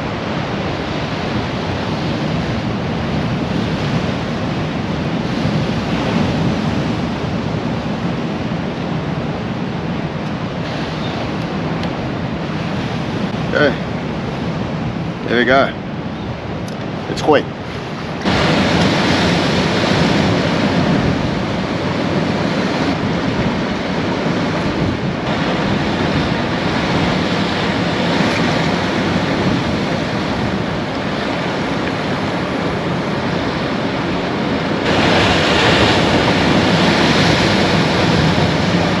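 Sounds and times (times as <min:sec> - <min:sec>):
surf washing over rocks: 0:00.0 - 0:39.0.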